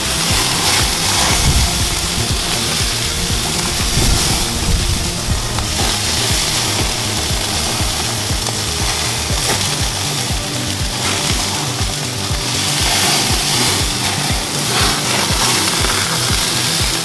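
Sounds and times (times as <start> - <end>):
meat sizzling on a grill: 0.0 - 17.0
music with low beat: 0.0 - 17.0.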